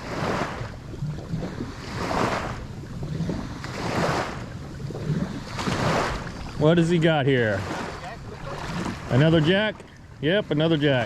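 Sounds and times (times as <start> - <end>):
wind on microphone: 0.0 - 9.8
small waves slapping a hull: 0.0 - 11.0.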